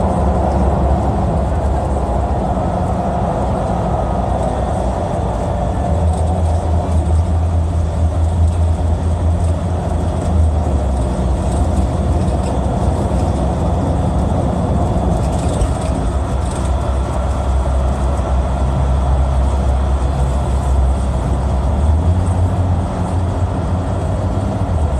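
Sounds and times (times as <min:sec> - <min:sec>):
vehicle rumbling at speed: 0:00.0 - 0:24.9.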